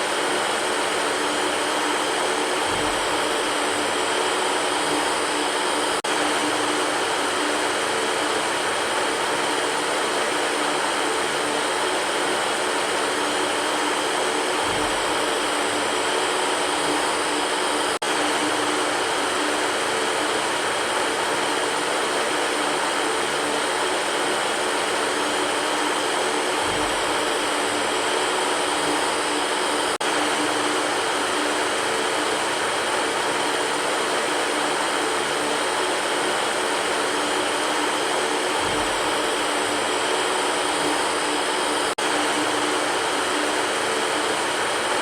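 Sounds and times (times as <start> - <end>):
electric fan whooshing: 0.0 - 45.0.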